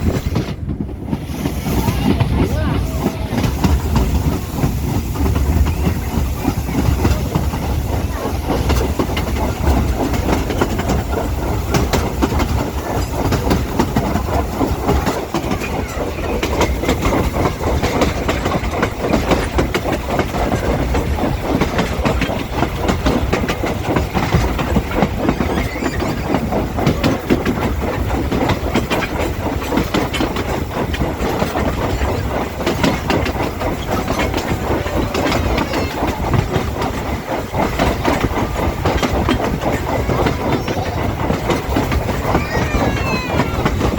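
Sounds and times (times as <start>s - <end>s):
rolling stock rattling: 0.0s - 43.9s
train rumbling along track: 0.0s - 43.9s
wheels clattering over rail joints: 0.0s - 43.9s.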